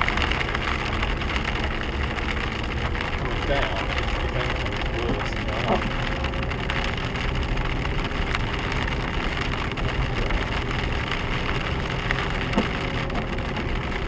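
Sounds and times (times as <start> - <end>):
car rumbling: 0.0 - 14.0
hail pelting car roof: 0.0 - 14.0.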